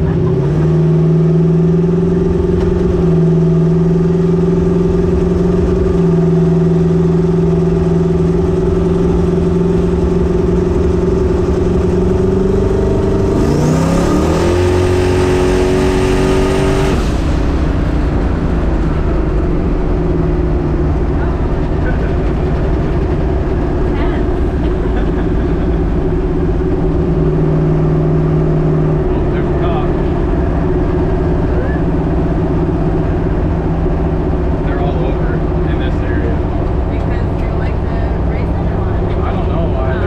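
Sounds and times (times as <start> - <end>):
truck engine accelerating: 0.0 - 40.0.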